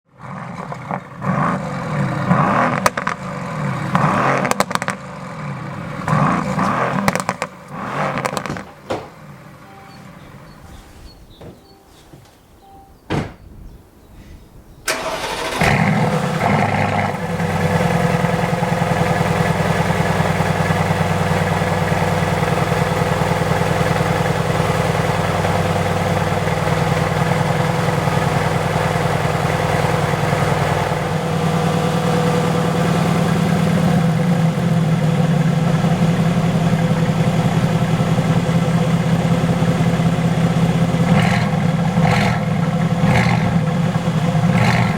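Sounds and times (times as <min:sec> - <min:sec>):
car engine starting and idling: 0:00.1 - 0:11.1, 0:14.8 - 0:44.9.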